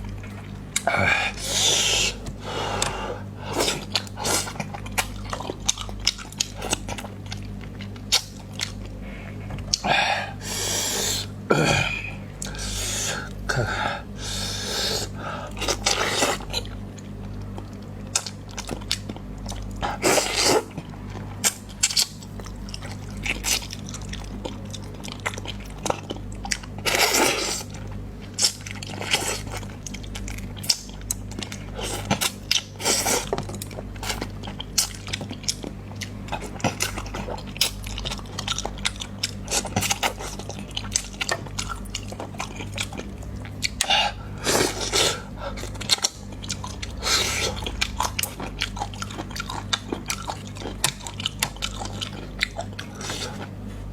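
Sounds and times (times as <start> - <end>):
chewing and mouth clicks: 3.7 - 9.9, 15.6 - 44.0, 44.7 - 53.6.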